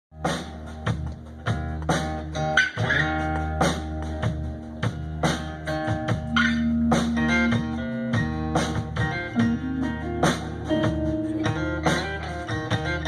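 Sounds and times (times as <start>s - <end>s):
drum beat: 0.2s - 13.0s
guitar notes: 0.2s - 13.0s.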